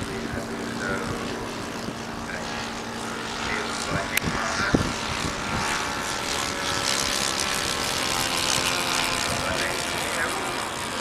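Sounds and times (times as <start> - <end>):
model aircraft engine and propeller: 0.0 - 11.0.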